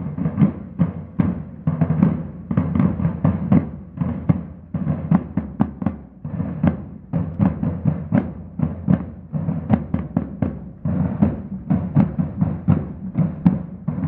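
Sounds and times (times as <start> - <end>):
marching drums playing a cadence: 0.0 - 14.0.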